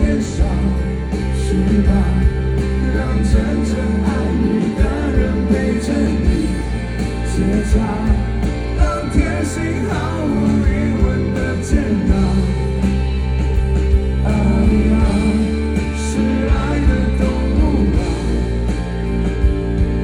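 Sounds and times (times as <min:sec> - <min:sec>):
person singing: 0:00.0 - 0:12.9, 0:14.2 - 0:18.7
rock band playing: 0:00.0 - 0:20.0.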